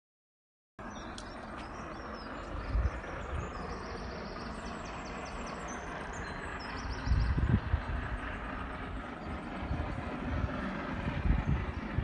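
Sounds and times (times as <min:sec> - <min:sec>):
outdoor rumble: 0:00.8 - 0:12.0
wind buffeting microphone: 0:00.9 - 0:12.0.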